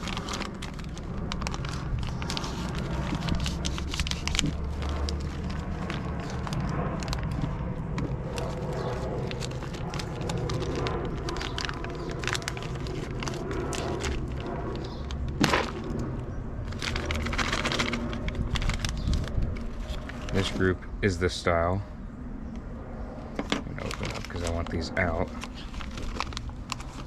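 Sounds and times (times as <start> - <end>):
packaging crackling with clicks: 0.0 - 16.1, 16.7 - 20.5, 23.6 - 27.0
steady low hum: 0.0 - 27.0.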